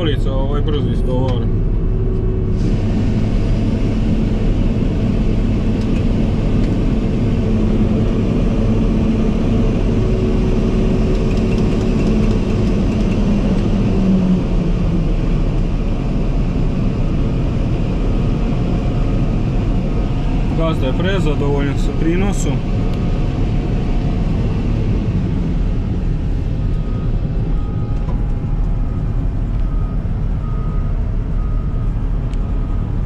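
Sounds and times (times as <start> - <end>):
combine harvester running: 0.0 - 33.0.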